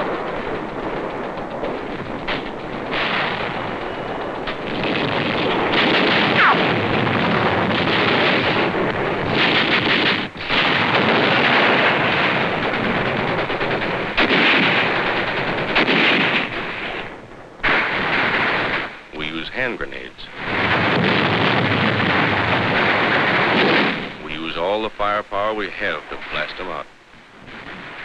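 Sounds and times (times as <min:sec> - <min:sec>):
rifle and machine-gun fire: 0:00.0 - 0:24.7.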